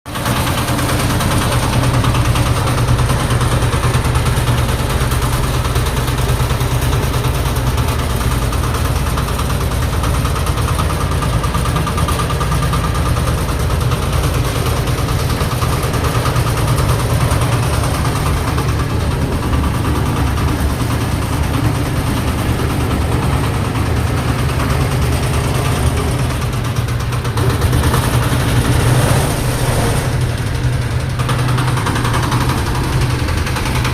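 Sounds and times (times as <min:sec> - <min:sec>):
concrete mixer: 0:00.1 - 0:33.9
diesel engine running: 0:00.1 - 0:33.9.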